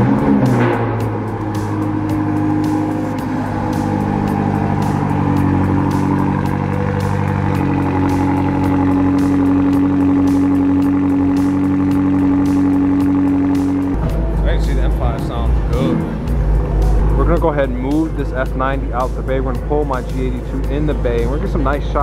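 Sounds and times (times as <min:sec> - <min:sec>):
background music with beat: 0:00.0 - 0:22.0
car engine idling: 0:00.0 - 0:22.0.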